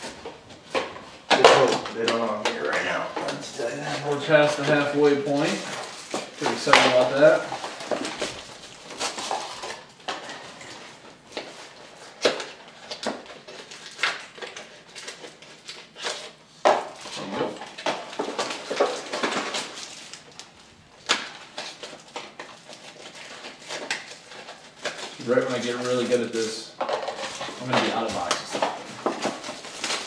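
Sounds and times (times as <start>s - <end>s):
cards rustling: 0.0s - 30.0s
plastic wrappers crinkling and tearing: 0.0s - 30.0s.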